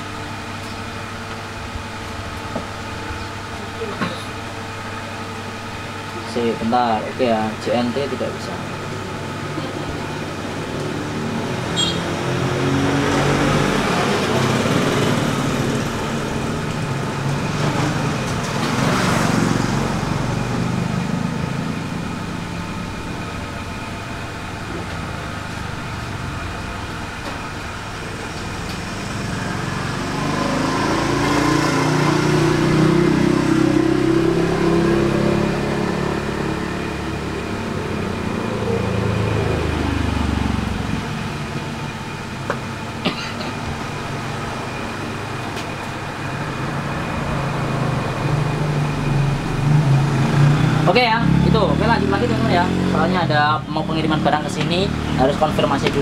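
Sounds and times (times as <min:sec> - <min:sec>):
vehicle engines passing: 0:04.9 - 0:56.0.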